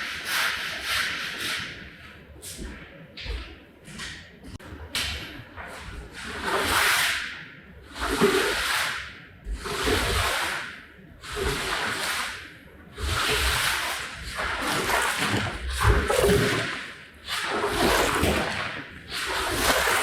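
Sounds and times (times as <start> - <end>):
swishing strokes on wet rug: 0.0 - 4.2, 5.0 - 20.0.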